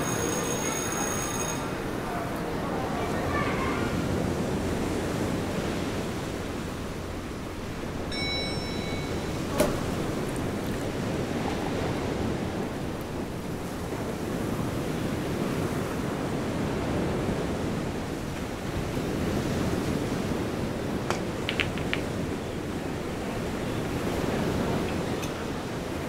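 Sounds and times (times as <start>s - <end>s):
ocean waves washing: 0.0s - 26.0s.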